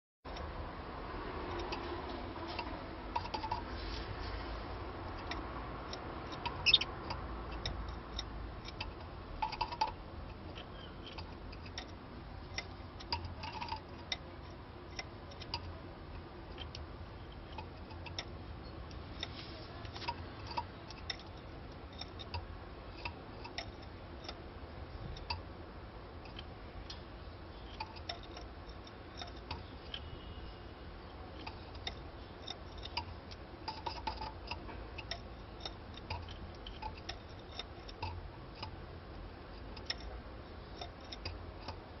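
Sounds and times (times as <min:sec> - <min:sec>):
birds clicking and tapping on cage: 0:00.3 - 0:42.0.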